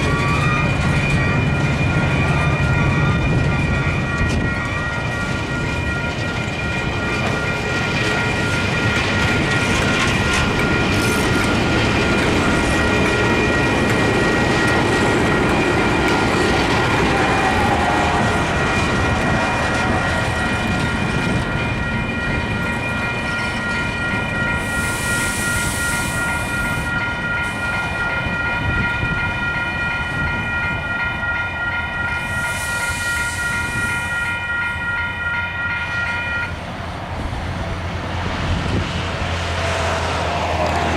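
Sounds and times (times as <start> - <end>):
diesel locomotive rumble: 0.0 - 40.9.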